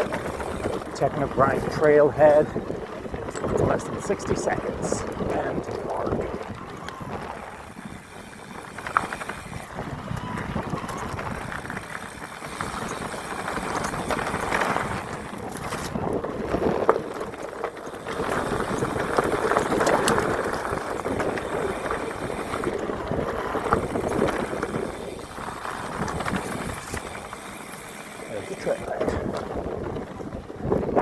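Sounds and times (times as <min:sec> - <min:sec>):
bike clicks and knocks: 0:00.0 - 0:04.1, 0:05.0 - 0:31.0
tyre and wind noise: 0:00.0 - 0:31.0.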